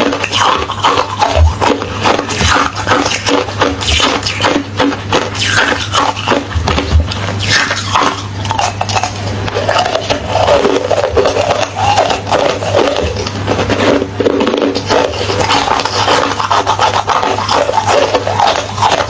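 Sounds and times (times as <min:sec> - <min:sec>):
ice being chewed crunching: 0:00.0 - 0:19.0.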